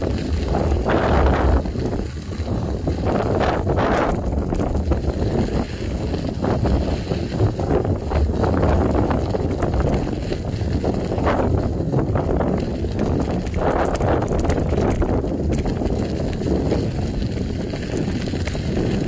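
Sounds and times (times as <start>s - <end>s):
bicycle knocks and rattles: 0.0s - 19.0s
tyres crunching over gravel: 0.0s - 19.0s
wind rumbling on microphone: 0.0s - 19.0s.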